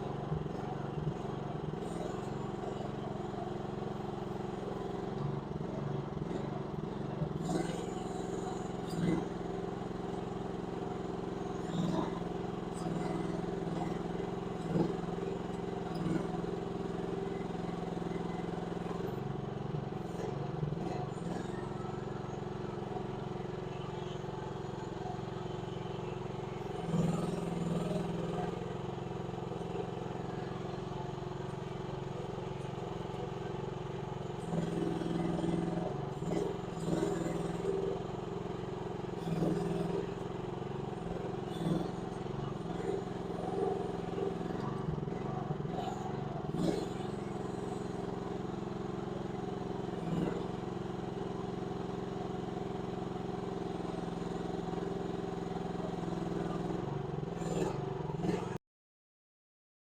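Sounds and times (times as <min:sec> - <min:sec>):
excavator engine running: 0:00.0 - 0:58.6.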